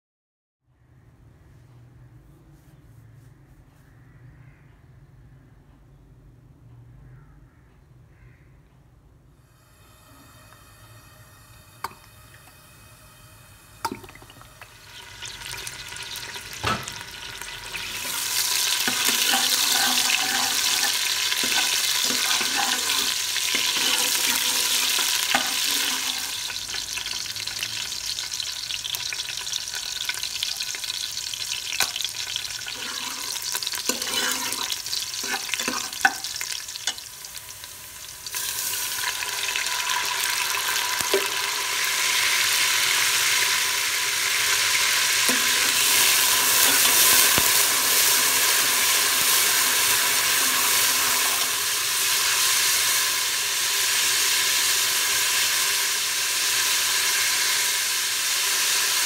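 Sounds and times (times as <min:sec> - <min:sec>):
onions sizzling in hot oil: 0:09.5 - 0:59.0.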